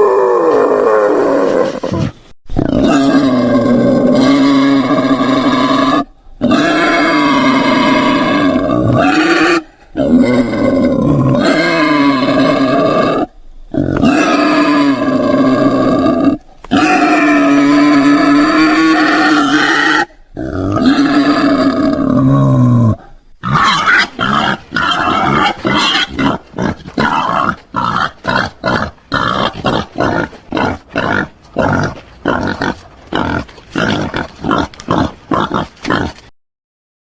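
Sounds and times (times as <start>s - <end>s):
wild boar calling: 0.0s - 36.3s.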